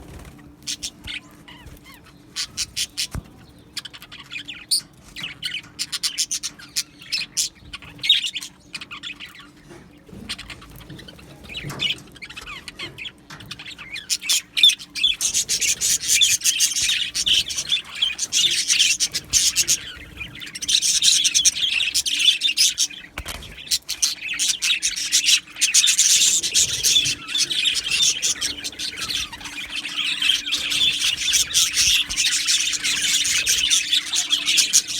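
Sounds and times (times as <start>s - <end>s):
budgerigars chirping: 0.1s - 34.9s.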